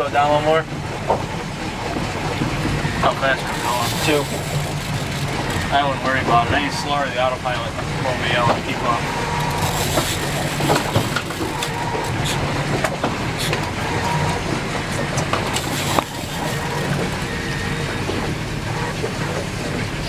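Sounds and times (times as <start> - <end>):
boat engine humming: 0.0 - 20.0
water noise: 0.0 - 20.0
wind: 0.0 - 20.0.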